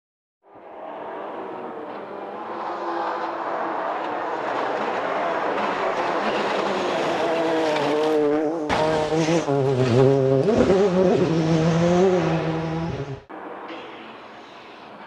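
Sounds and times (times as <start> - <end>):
rally car passing with gear change: 0.6 - 14.2
rally car engine at high revs: 1.0 - 13.3.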